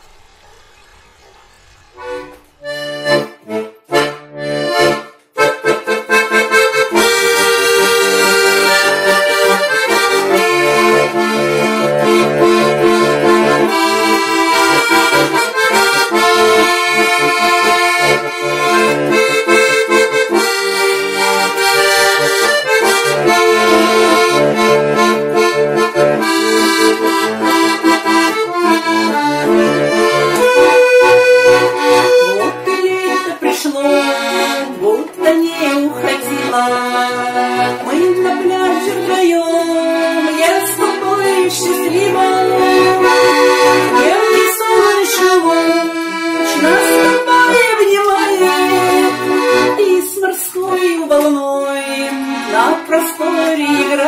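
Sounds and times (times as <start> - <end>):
button accordion playing: 2.0 - 54.0.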